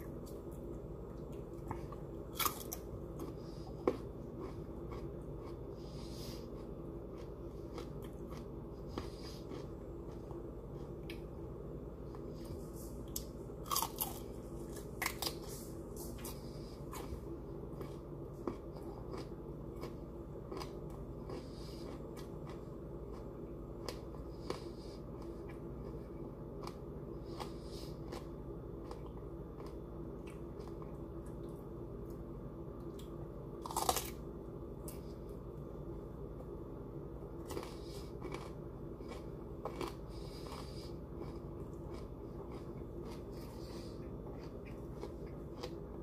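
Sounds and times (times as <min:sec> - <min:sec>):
person chewing broccoli crunches: 0:00.0 - 0:35.7, 0:37.2 - 0:46.0
steady low hum: 0:00.0 - 0:46.0.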